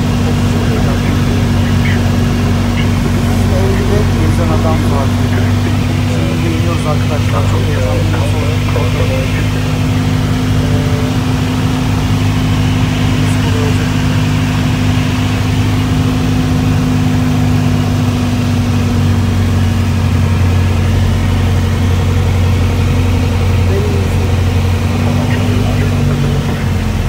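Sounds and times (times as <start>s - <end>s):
airplane engine and propeller droning: 0.0s - 27.0s.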